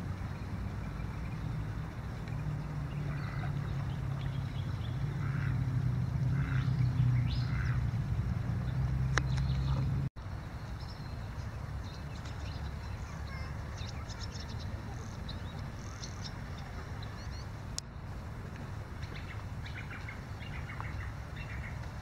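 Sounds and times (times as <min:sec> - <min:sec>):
steady low rumble: 0:00.0 - 0:22.0
small birds chirping: 0:00.1 - 0:22.0.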